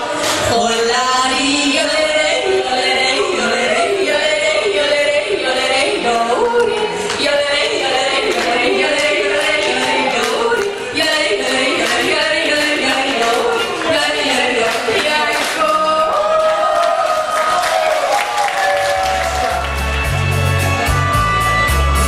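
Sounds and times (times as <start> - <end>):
voices singing with accompaniment: 0.0 - 18.1.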